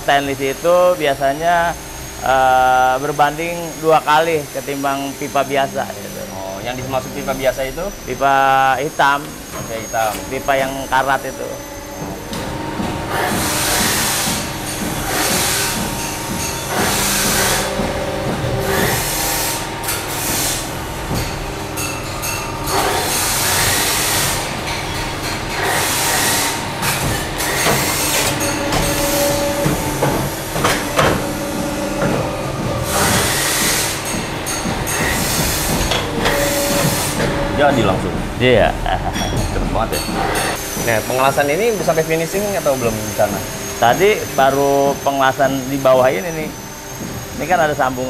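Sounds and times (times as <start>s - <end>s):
pipe-bending machine humming: 0.0s - 48.0s
sharp metallic knocks: 4.2s - 48.0s.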